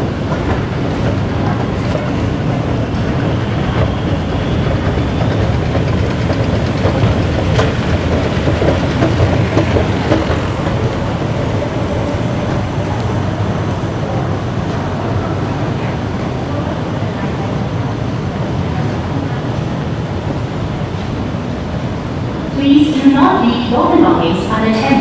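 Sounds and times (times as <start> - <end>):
train rumbling in underground station: 0.0 - 25.0.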